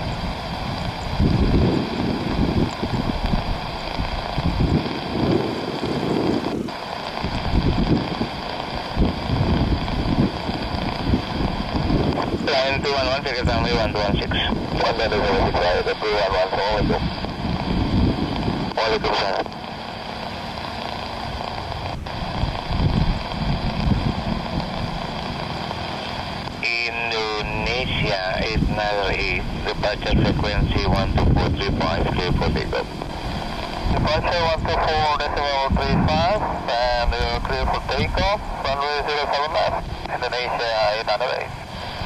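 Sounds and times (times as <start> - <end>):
jet engines whining: 0.0 - 42.0
wind buffeting microphone: 0.0 - 42.0.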